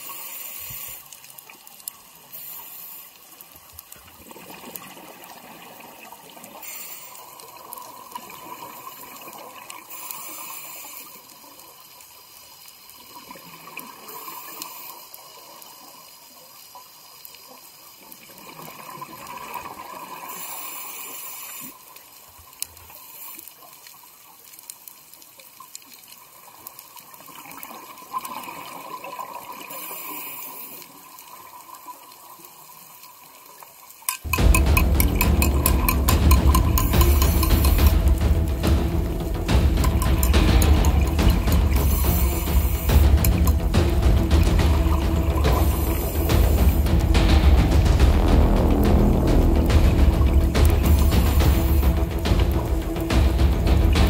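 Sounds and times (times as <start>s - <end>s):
steady watery hiss: 0.0s - 54.0s.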